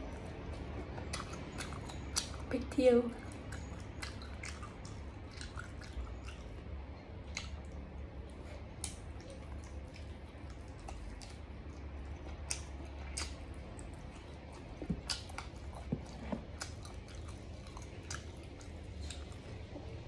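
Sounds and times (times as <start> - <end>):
low steady hum: 0.0 - 20.0
wet squishy chewing: 0.0 - 20.0.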